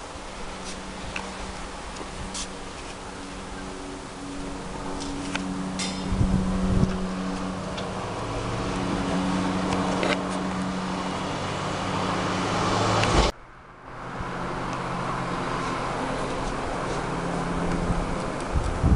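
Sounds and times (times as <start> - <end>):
motor vehicle approaching: 0.0 - 18.9
steady traffic noise: 0.0 - 18.9.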